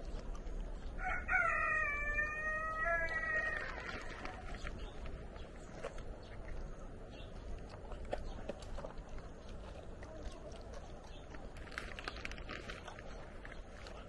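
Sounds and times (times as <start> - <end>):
dogs chewing: 0.0 - 14.0.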